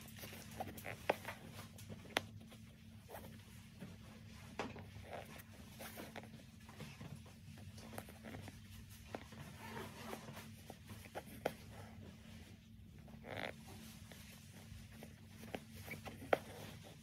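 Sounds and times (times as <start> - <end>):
jacket fabric rustling: 0.0 - 17.0
steady low hum: 0.0 - 17.0.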